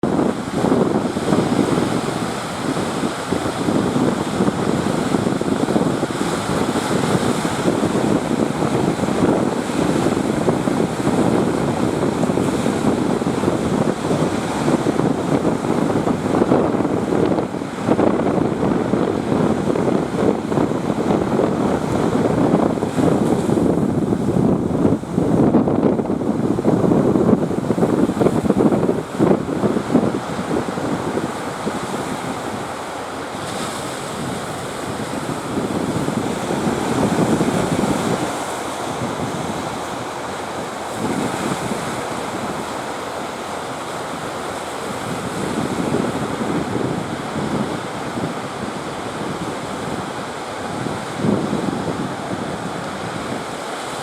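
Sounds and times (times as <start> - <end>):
surf breaking: 0.0 - 54.0
wind blowing across microphone: 0.0 - 54.0.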